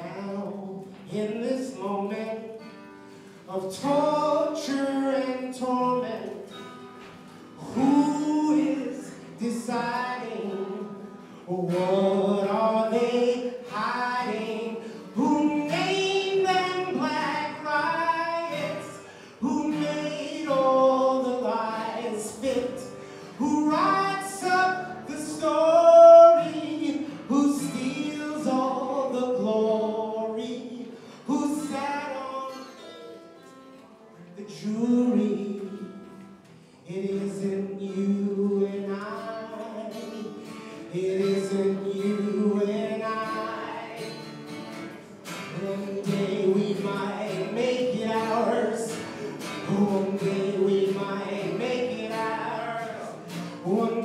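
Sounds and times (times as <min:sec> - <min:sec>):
man singing: 0:00.0 - 0:33.2, 0:34.0 - 0:54.0
acoustic guitar strumming: 0:00.0 - 0:54.0.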